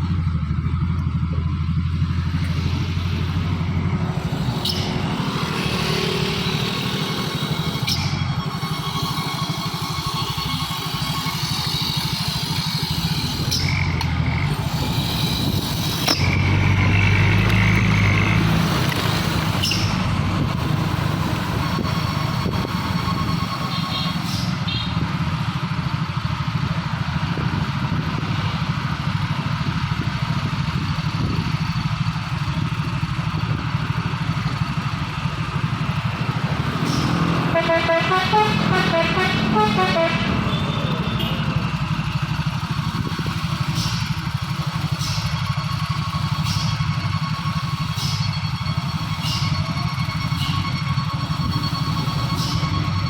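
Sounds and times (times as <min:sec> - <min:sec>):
vehicle engines running: 0:00.0 - 0:53.0.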